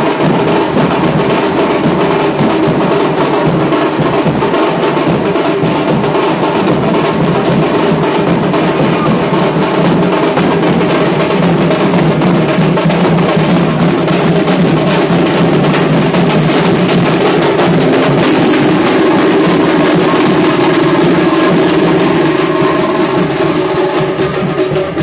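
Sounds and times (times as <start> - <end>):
dhol drums beating fast: 0.0 - 25.0.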